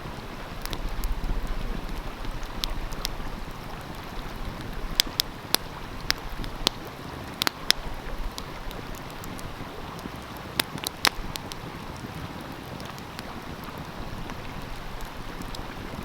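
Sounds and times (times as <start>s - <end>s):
fire popping: 0.0s - 16.0s
flowing stream: 0.0s - 16.0s
wood fire crackling: 0.0s - 16.0s.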